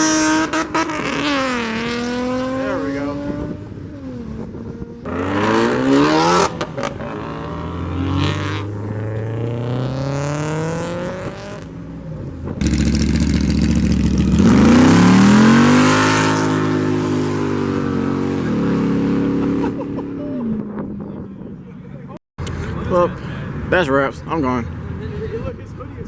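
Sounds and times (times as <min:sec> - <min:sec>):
car engines accelerating hard: 0:00.0 - 0:26.0.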